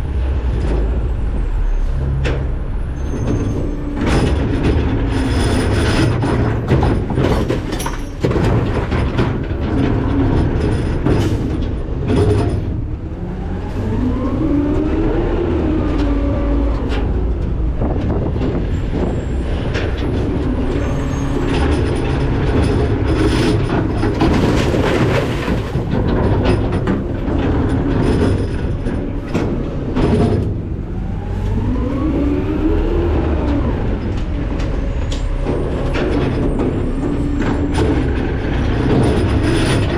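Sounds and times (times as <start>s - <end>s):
truck engine and hydraulic rumble: 0.0s - 39.9s
trash crunching while compacted: 0.2s - 39.9s.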